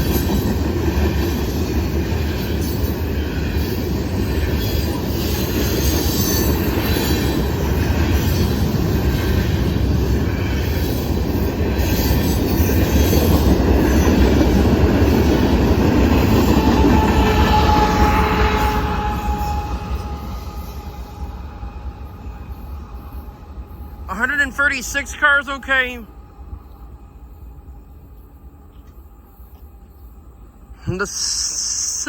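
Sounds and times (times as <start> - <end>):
freight train cars rolling past: 0.0 - 32.0.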